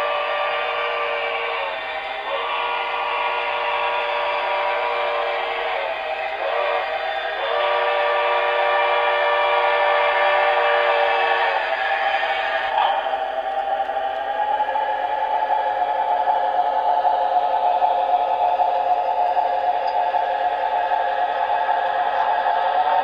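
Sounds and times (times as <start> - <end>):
model train steam whistle: 0.0 - 23.0.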